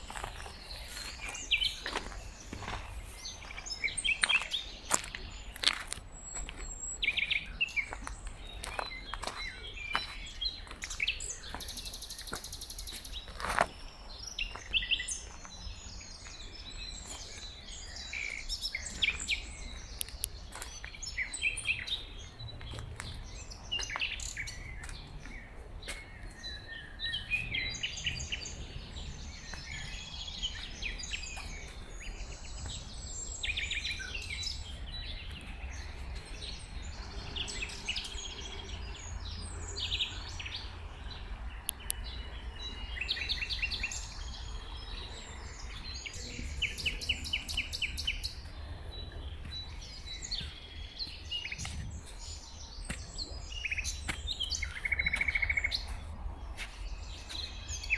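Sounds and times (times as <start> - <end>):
songbirds singing and chirping: 0.0 - 57.9.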